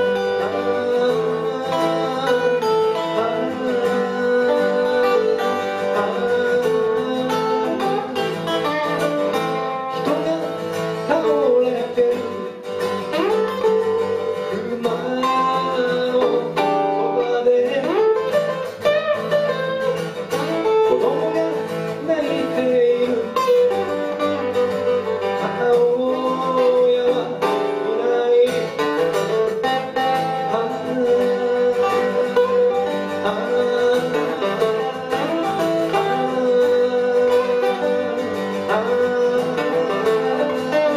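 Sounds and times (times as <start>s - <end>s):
amplified guitars: 0.0s - 40.9s
man singing: 0.0s - 40.9s.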